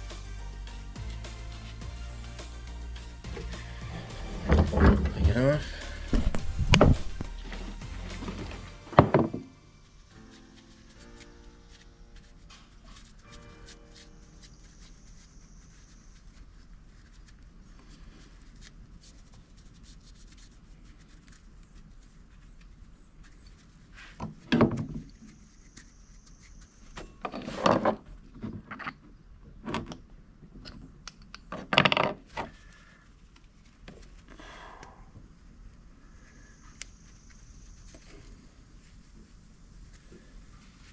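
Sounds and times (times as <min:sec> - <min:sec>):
rubbing and scraping handling noises: 0:00.0 - 0:29.0, 0:36.4 - 0:40.9.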